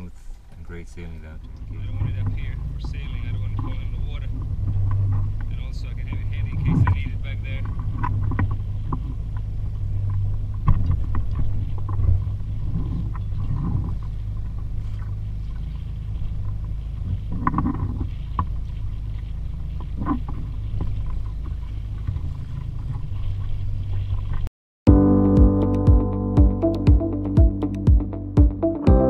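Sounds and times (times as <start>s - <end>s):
steady low rumble: 0.0s - 24.2s, 24.9s - 29.0s
gear knocking and clunking: 0.0s - 24.5s.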